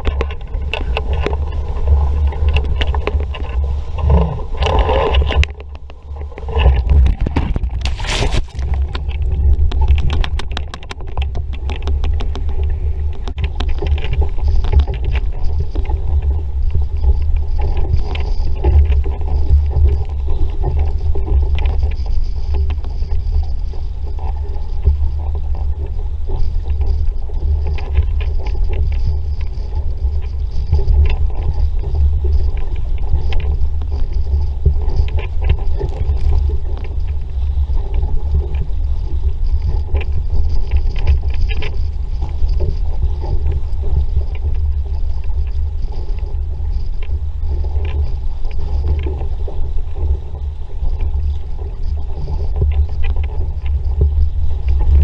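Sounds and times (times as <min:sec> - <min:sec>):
water splashing against hull: 0:00.0 - 0:55.0
wind buffeting microphone: 0:00.0 - 0:55.0.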